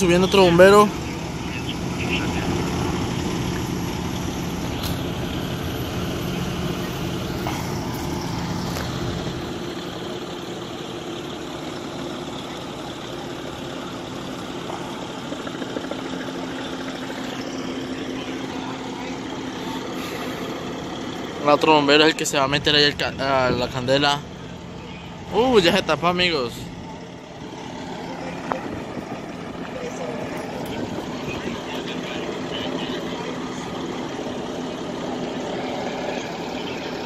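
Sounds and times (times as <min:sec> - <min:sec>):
fire engine running: 0:00.0 - 0:37.0.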